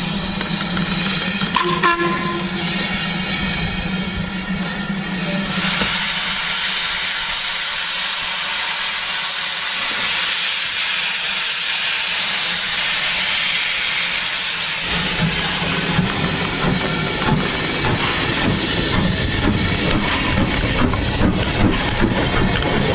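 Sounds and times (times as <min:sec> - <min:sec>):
steam locomotive hissing steam: 0:00.0 - 0:22.9.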